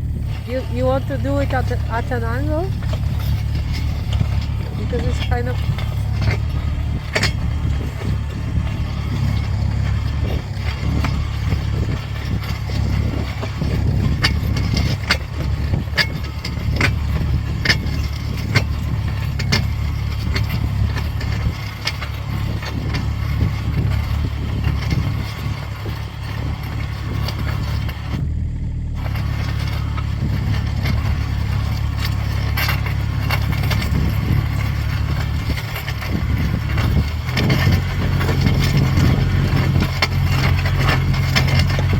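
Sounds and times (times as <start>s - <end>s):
diesel engine running: 0.0s - 41.9s
sharp clicks and knocks: 0.3s - 28.3s, 29.0s - 41.9s.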